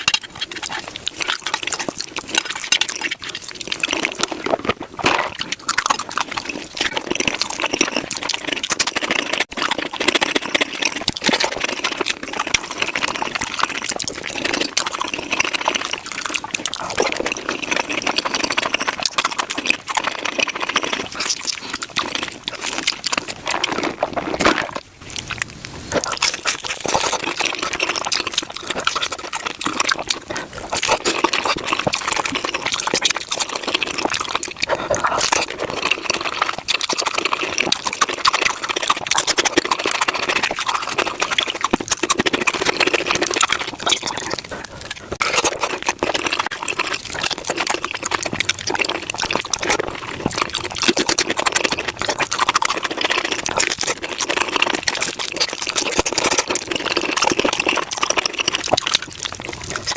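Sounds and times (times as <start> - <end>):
sped-up chewing and mouth noises: 0.0 - 59.9.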